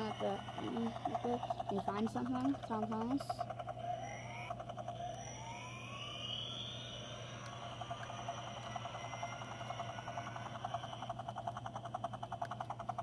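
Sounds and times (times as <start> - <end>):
toy electronic siren: 0.0 - 13.0.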